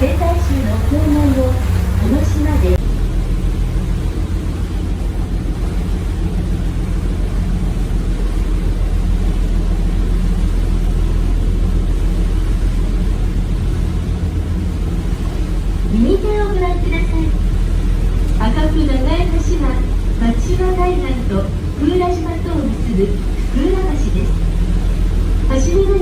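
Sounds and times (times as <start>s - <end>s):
boat engine droning: 0.0s - 26.0s
rushing wind and water: 0.0s - 26.0s.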